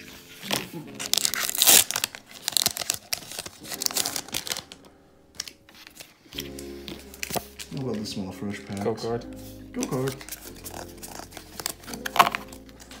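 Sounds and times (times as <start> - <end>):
foil pack crinkling and tearing: 0.0 - 8.1, 9.8 - 13.0.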